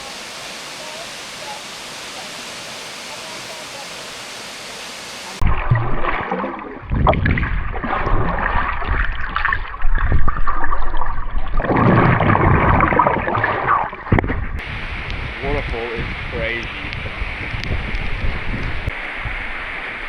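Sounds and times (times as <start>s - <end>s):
water splashing and churning: 0.0s - 20.0s.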